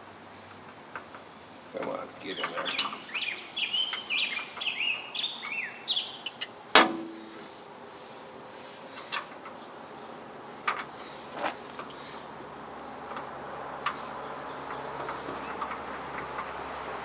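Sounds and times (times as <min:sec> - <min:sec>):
steady faint hiss: 0:00.0 - 0:17.0.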